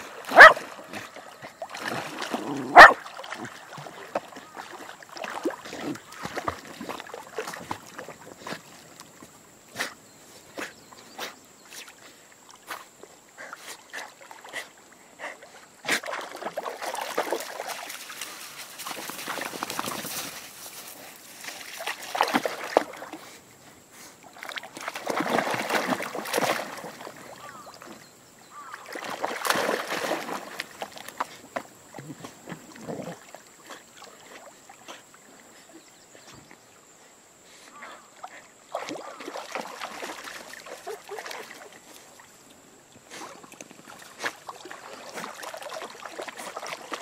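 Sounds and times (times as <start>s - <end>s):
dogs swimming and splashing water: 0.0s - 47.0s.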